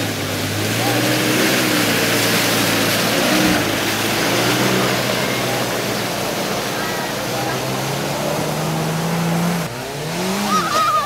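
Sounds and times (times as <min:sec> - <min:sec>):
broad rushing noise: 0:00.0 - 0:11.0
off-road vehicle engine revving: 0:00.0 - 0:11.0.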